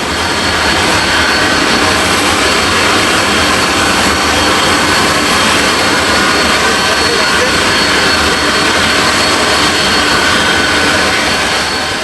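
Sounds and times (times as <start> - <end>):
faint high whine: 0.0 - 12.0
jet aircraft engine rushing: 0.0 - 12.0.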